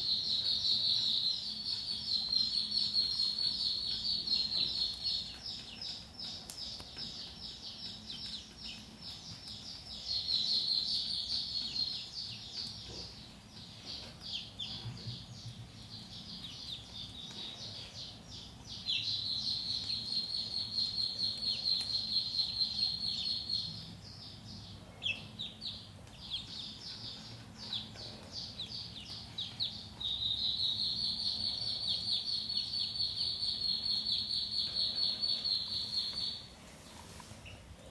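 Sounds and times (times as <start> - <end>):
ducklings peeping: 0.0 - 36.6.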